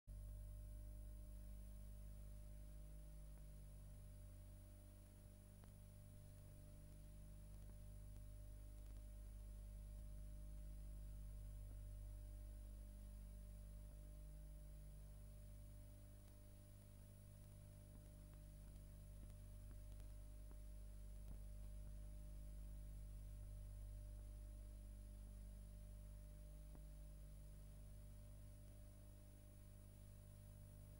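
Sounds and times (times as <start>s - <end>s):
faint high whine and hiss: 0.1s - 30.9s
steady low hum: 0.1s - 30.9s.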